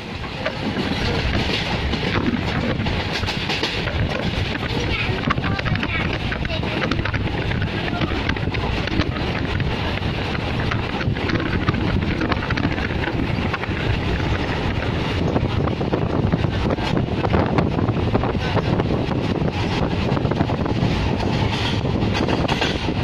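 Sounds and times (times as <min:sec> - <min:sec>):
moving train running noise: 0:00.0 - 0:23.0
wind rushing over microphone: 0:00.0 - 0:23.0.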